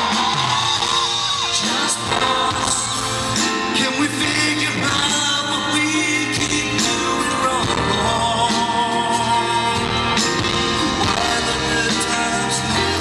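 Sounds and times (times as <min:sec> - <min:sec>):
live band playing: 0:00.0 - 0:13.0
man singing live: 0:00.0 - 0:13.0.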